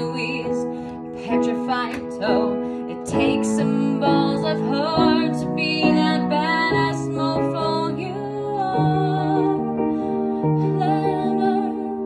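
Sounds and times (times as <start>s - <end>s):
woman singing with vibrato: 0.0s - 9.9s, 10.5s - 12.0s
piano chords: 0.0s - 12.0s.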